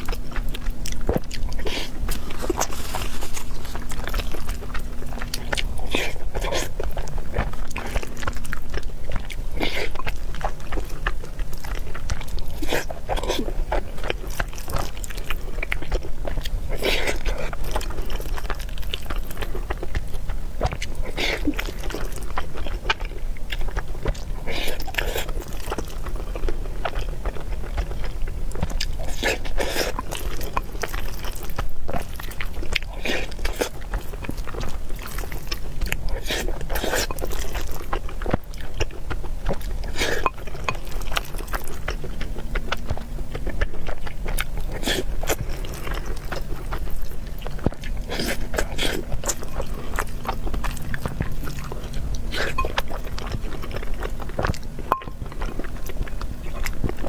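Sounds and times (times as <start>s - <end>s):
person chewing food: 0.0s - 57.0s
steady low hum: 0.0s - 57.0s.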